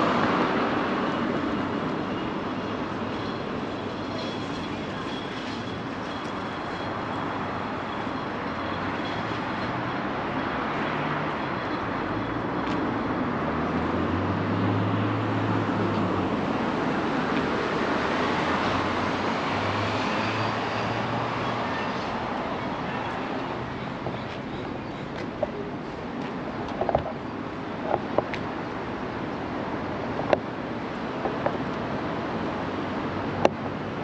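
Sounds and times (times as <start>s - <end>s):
construction machinery diesel engines: 0.0s - 34.0s.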